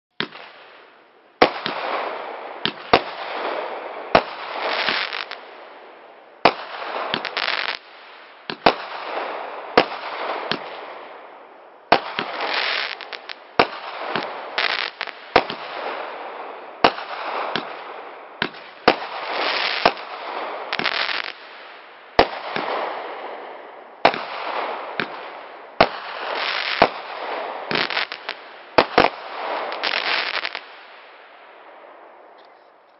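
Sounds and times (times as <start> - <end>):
crackling firework stars: 0.1 - 32.9
firework bangs: 0.2 - 32.2.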